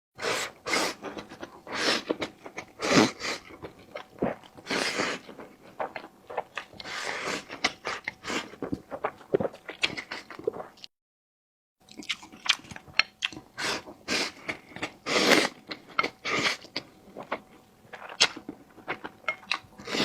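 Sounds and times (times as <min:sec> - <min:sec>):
person chewing crunchy food: 0:00.2 - 0:10.9, 0:11.8 - 0:20.0.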